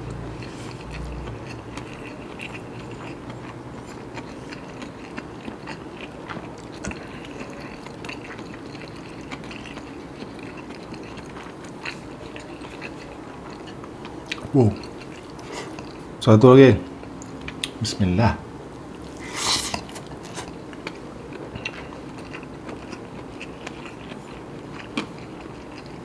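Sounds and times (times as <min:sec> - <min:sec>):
close chewing: 0:00.0 - 0:16.2, 0:19.0 - 0:26.0.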